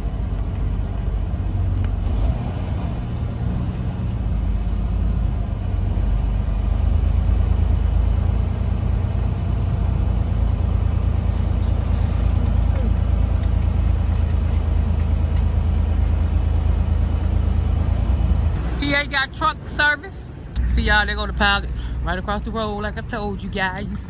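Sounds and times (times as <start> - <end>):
diesel truck engine rumble: 0.0 - 24.0.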